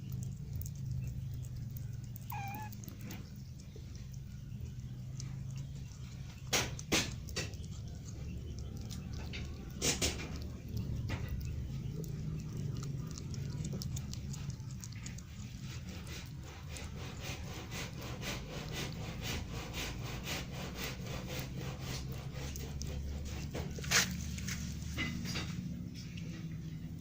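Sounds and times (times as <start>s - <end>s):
kitten chewing: 0.0s - 27.0s.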